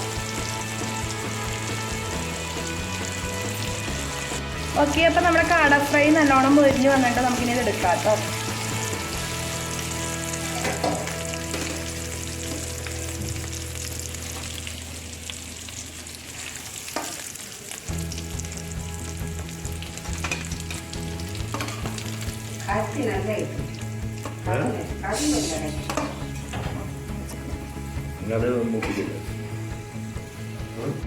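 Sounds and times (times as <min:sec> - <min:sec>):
meat deep-frying sizzle: 0:00.0 - 0:31.0.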